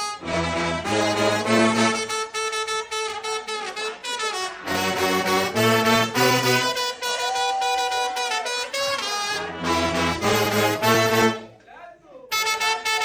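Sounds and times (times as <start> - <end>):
instrumental melody of held notes: 0.0 - 7.4, 8.1 - 11.5.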